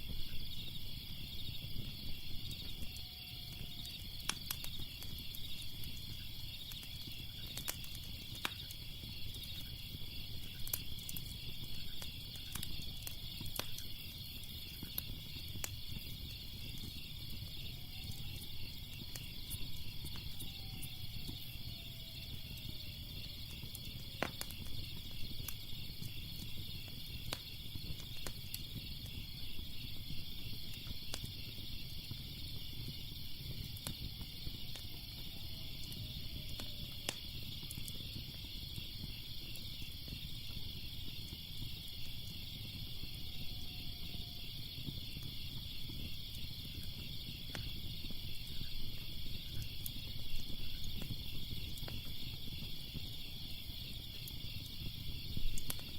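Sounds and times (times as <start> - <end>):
fire crackling and popping: 0.0 - 55.9
night insects chorus: 0.0 - 55.9.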